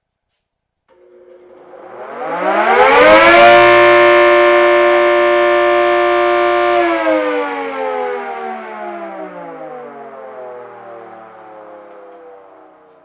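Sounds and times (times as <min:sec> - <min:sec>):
air raid siren howling: 0:00.9 - 0:13.0.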